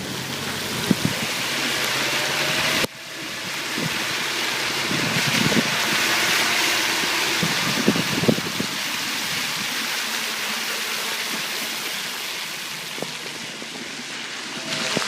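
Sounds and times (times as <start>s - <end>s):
car engine: 0.0s - 15.0s
tyres hissing through snow: 0.0s - 15.0s.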